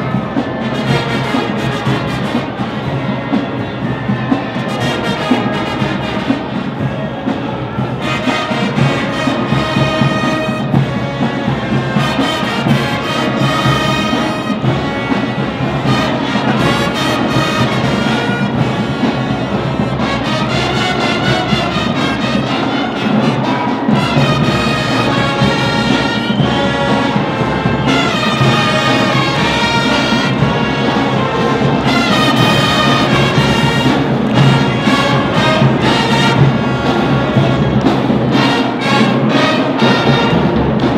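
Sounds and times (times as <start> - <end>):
brass horns playing: 0.0 - 40.9
steady drum beat: 0.0 - 40.9.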